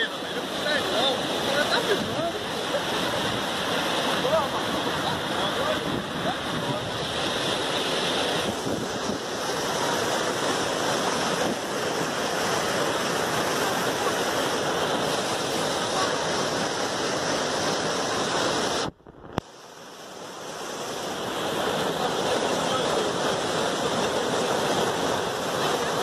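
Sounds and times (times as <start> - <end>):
river rushing in flood: 0.0 - 26.0.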